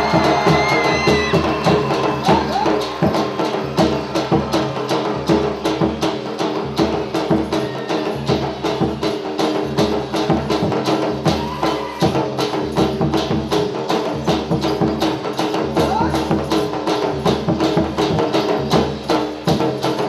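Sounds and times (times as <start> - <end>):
fast drum beat: 0.0 - 20.0.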